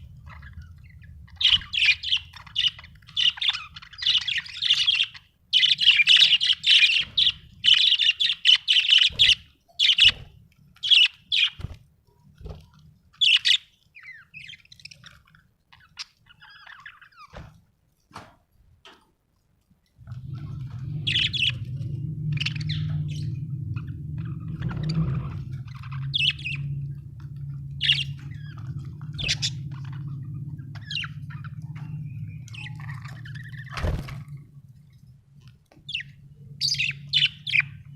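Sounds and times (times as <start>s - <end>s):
budgerigars chirping: 0.0s - 11.8s, 13.2s - 17.4s, 20.2s - 34.0s, 35.9s - 37.9s
steady low hum: 0.0s - 16.0s, 19.4s - 37.9s.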